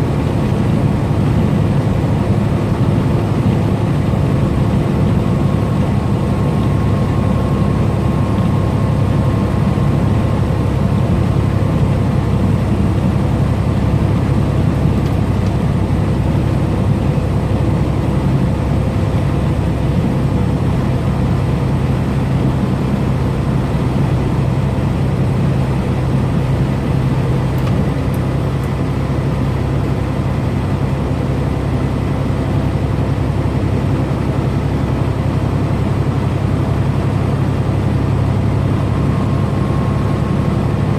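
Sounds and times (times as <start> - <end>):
road noise: 0.0 - 40.9
truck diesel engine rumble: 0.0 - 40.9.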